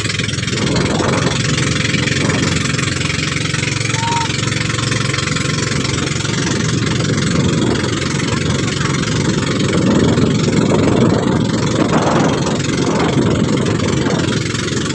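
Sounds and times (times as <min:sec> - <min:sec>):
motorboat engine running: 0:00.0 - 0:14.9.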